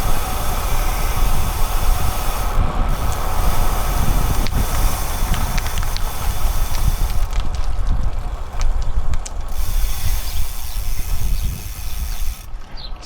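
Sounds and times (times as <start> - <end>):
bicycle freehub ticking: 0.0 - 13.0
wind buffeting microphone: 0.0 - 13.0.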